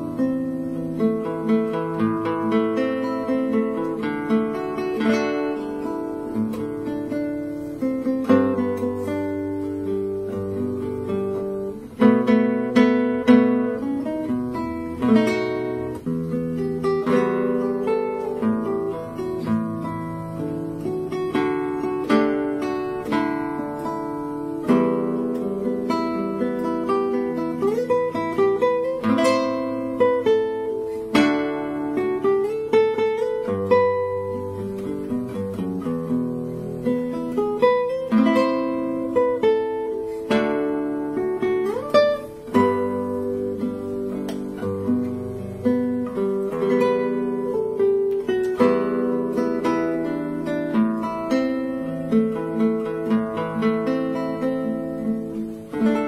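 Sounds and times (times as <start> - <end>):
fingerstyle classical guitar: 0.0 - 56.0.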